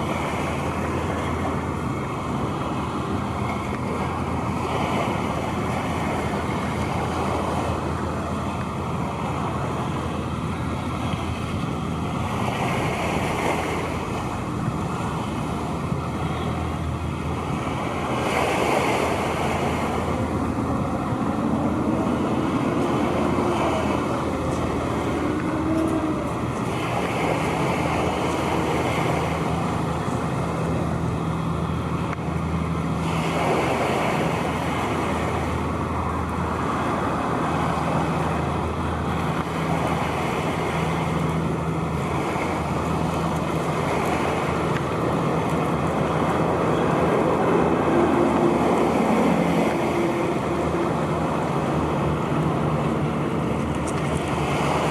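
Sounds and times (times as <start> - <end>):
low engine drone: 0.0 - 54.9
passing road traffic: 0.0 - 54.9
wind: 0.0 - 54.9.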